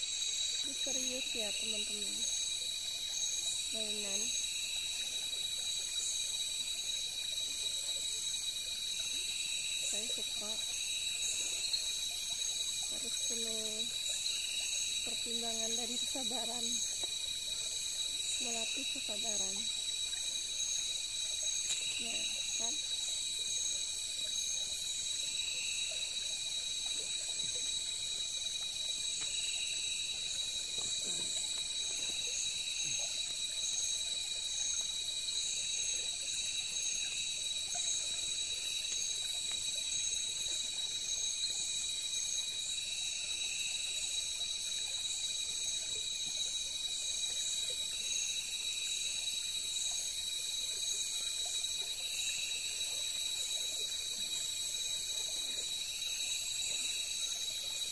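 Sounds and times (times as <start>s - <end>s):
insects trilling: 0.0s - 57.9s
pulsing insect call: 0.0s - 57.9s.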